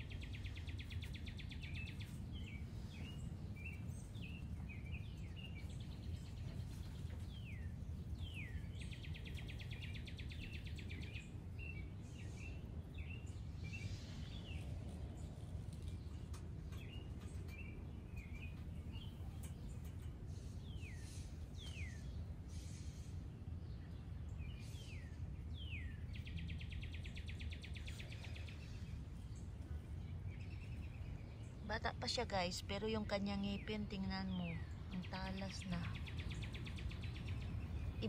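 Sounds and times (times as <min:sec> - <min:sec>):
low outdoor rumble: 0:00.0 - 0:38.0
songbird singing: 0:00.0 - 0:38.0.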